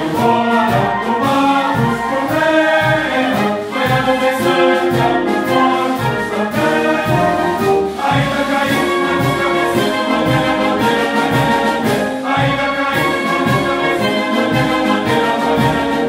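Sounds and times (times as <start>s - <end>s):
brass band playing march: 0.0s - 16.0s.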